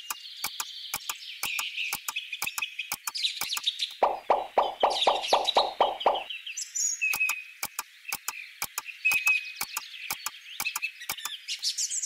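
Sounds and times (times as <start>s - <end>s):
sharp clicks: 0.0s - 6.3s, 7.1s - 11.4s
birds chirping: 0.0s - 12.0s.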